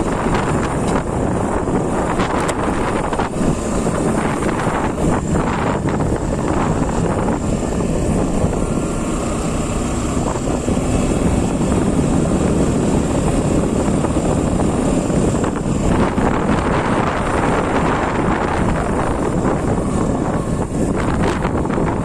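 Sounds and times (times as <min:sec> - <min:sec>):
motorcycle engine and road noise: 0:00.0 - 0:22.0
wind rushing over microphone: 0:00.0 - 0:22.0.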